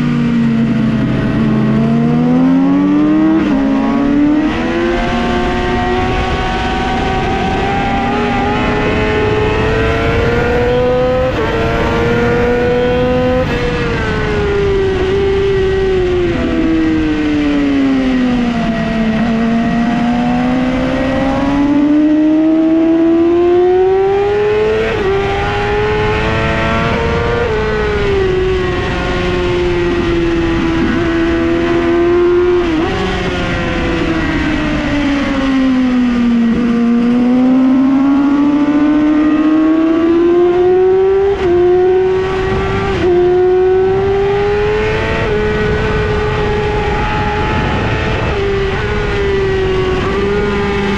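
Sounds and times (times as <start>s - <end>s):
sport bike engine revving: 0.2s - 16.9s, 17.8s - 50.9s.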